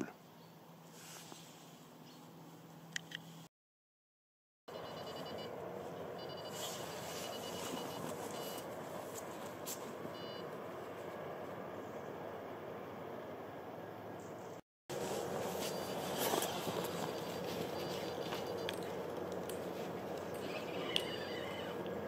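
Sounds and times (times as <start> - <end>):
outdoor background hiss: 0.1 - 3.5, 4.7 - 22.0.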